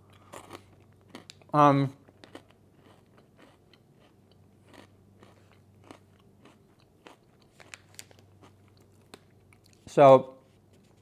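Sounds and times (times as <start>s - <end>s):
faint chewing with soft crunches: 0.0s - 9.9s.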